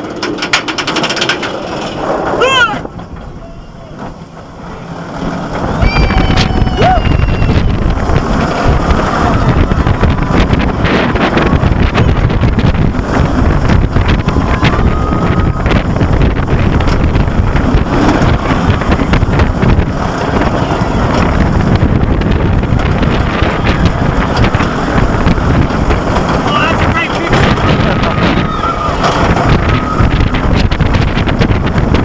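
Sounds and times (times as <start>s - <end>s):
roller coaster rumbling on track: 0.0s - 32.0s
wind blasting over microphone: 0.0s - 32.0s.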